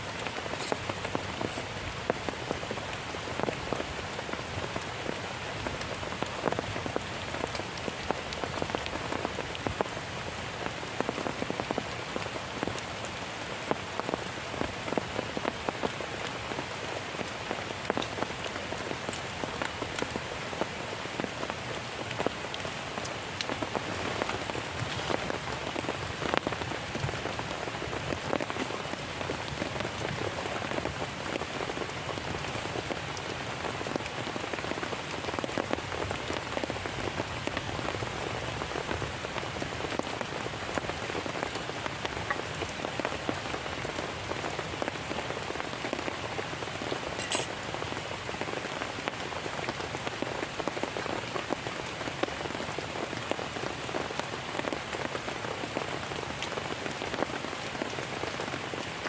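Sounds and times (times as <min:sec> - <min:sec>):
heavy rain falling: 0:00.0 - 0:59.0
raindrops hitting: 0:00.0 - 0:59.0.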